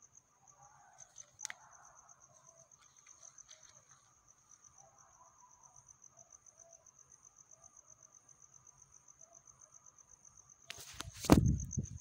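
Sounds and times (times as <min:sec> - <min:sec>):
faint insect trill: 0:00.0 - 0:12.0.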